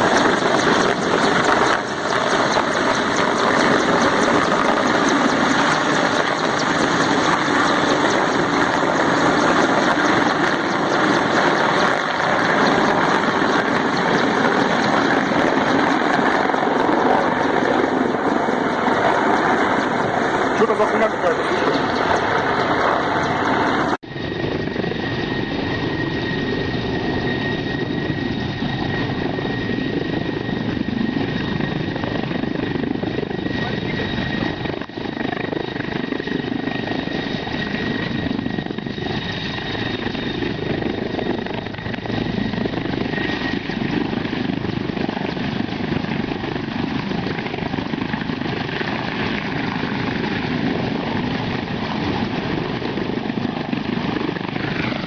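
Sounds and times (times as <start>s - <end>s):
helicopter running: 0.0s - 55.0s.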